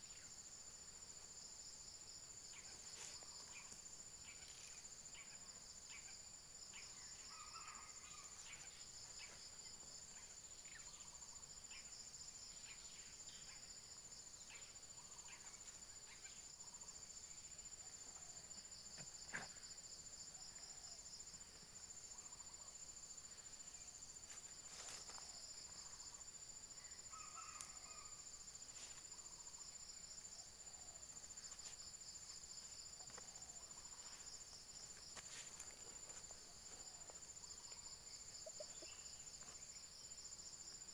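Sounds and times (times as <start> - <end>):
pulsing insect trill: 0.0 - 40.9.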